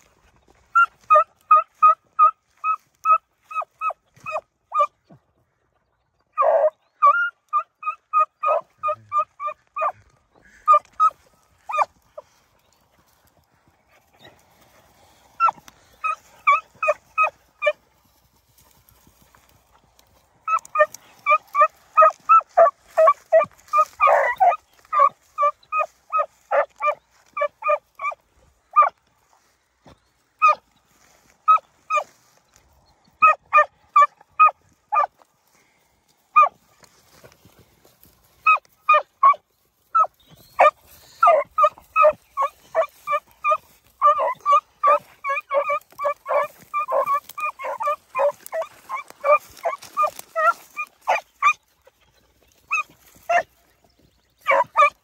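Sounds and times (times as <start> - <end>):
hounds barking: 0.7 - 5.0, 6.3 - 29.0, 30.4 - 30.7, 31.4 - 32.2, 33.1 - 35.3, 36.3 - 53.7, 54.4 - 55.0.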